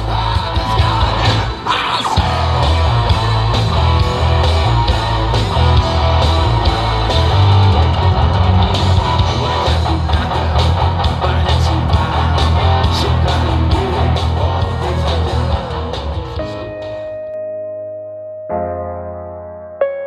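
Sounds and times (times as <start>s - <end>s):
drums: 0.0s - 17.2s
heavy bass: 0.0s - 17.3s
electric guitar: 0.0s - 19.8s.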